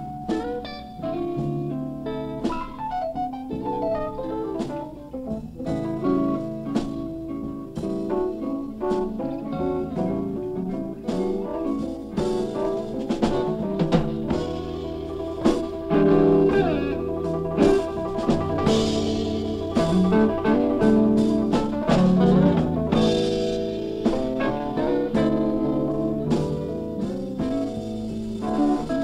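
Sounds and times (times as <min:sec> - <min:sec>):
live blues band: 0:00.0 - 0:29.0.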